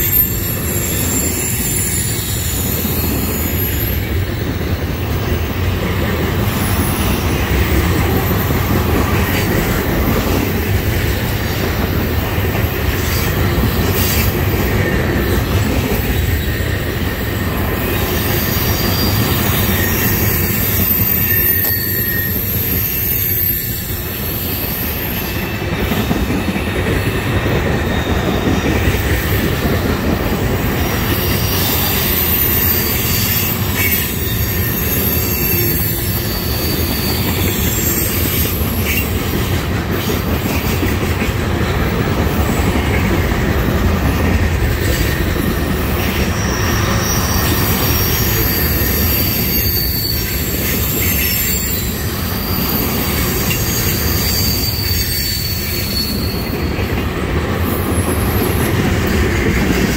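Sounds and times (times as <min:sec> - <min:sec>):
high-pitched wheel squeal: 0:00.0 - 0:10.5, 0:11.3 - 0:29.8, 0:30.7 - 0:40.9, 0:44.3 - 0:59.0
freight train wheels rumbling: 0:00.0 - 0:59.9.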